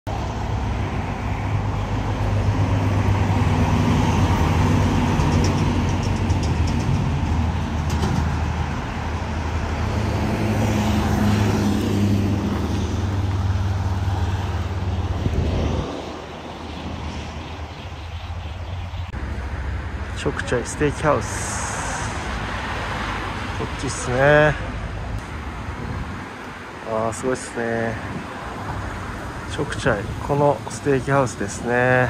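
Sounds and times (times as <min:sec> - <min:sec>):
highway traffic: 0:00.0 - 0:32.0.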